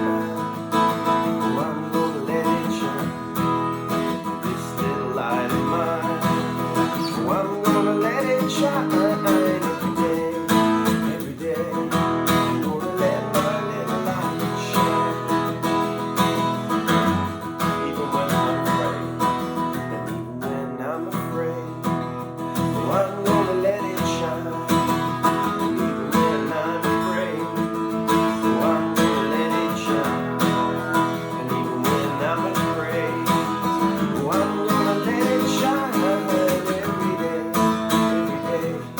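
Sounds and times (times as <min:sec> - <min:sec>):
strummed acoustic guitar: 0:00.0 - 0:38.9.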